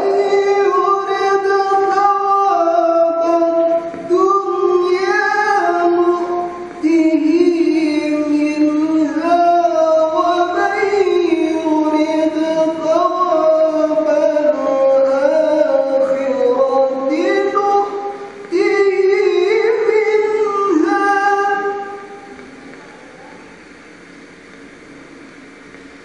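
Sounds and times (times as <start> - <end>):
man reciting melodically: 0.0 - 22.3.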